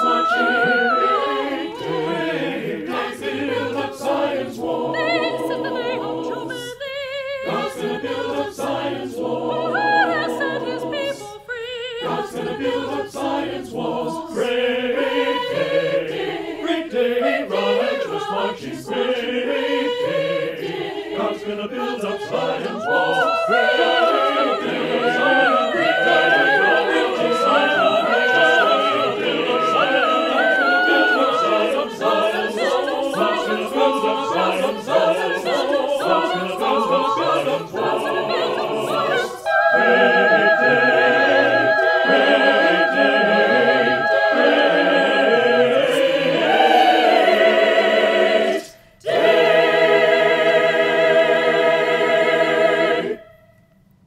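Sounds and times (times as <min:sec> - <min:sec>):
church choir singing: 0:00.0 - 0:53.6.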